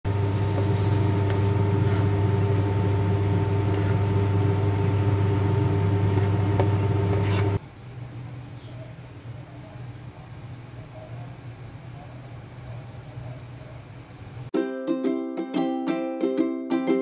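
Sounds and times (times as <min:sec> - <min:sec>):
kitchen appliance electrical hum: 0:00.0 - 0:14.5.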